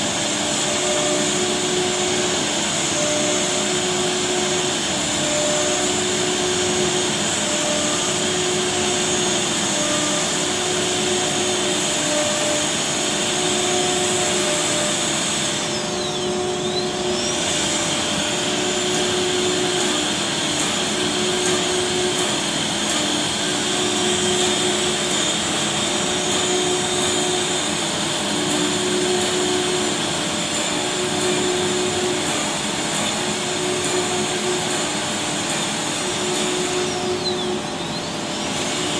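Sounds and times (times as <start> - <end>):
cnc router spindle whine: 0.0 - 38.9.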